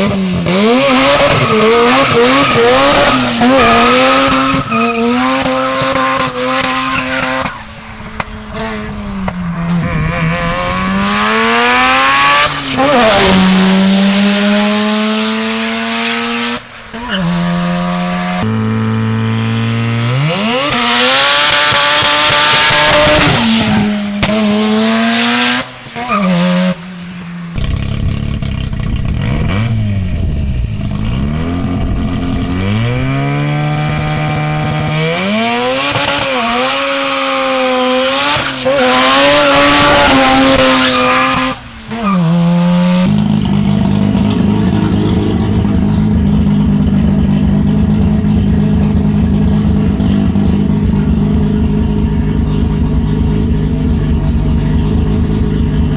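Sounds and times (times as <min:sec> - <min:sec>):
rotary engine revving: 0:00.0 - 0:26.8, 0:27.6 - 0:55.9.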